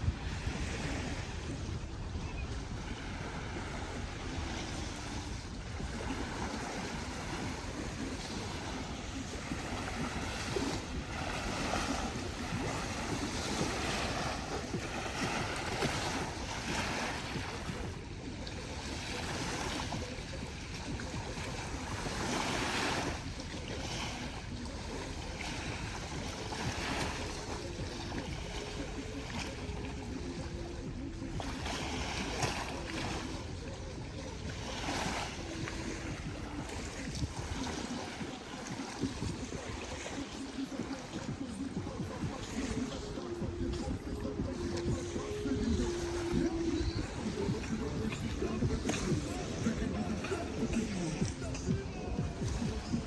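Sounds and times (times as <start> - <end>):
small waves washing onto beach: 0.0 - 53.0
wind buffeting microphone: 0.0 - 53.0.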